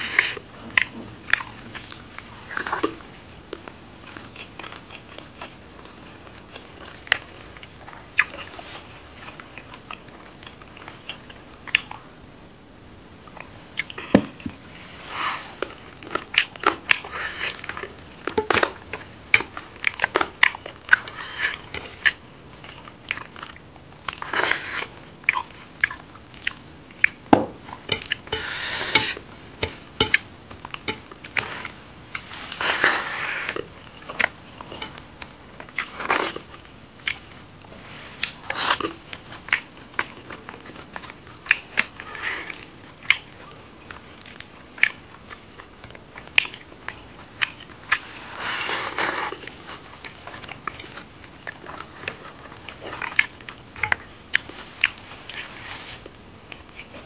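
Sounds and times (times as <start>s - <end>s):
chewing and lip-smacking: 0.0s - 12.5s, 13.2s - 14.5s, 15.2s - 57.0s.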